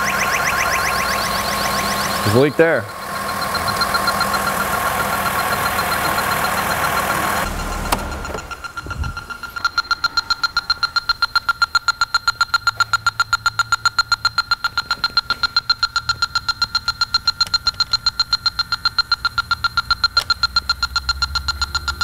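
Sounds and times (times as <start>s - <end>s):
leak detector rapid beeping: 0.0s - 22.0s.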